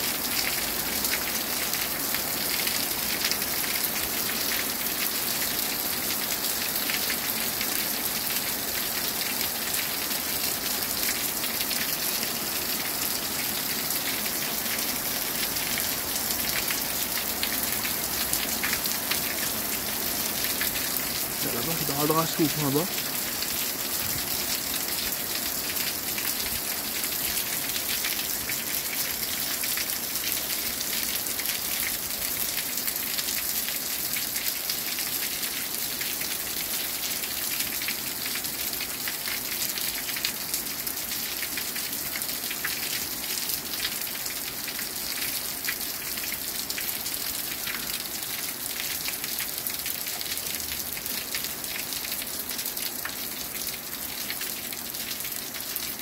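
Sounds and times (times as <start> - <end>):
heavy rain pouring: 0.0 - 56.0
water dripping off roof edge: 0.3 - 56.0.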